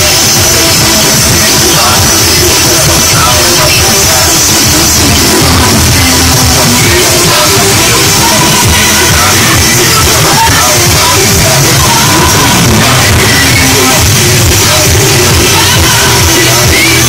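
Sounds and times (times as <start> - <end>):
heavy bass line: 0.0 - 17.0
loud music with vocals: 0.0 - 17.0.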